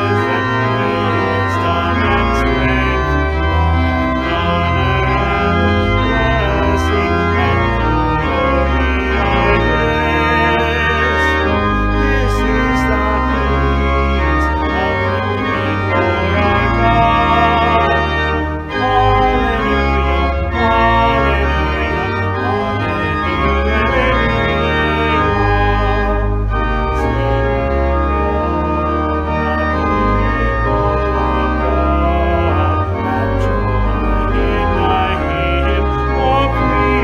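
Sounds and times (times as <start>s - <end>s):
church organ playing a hymn: 0.0s - 37.0s.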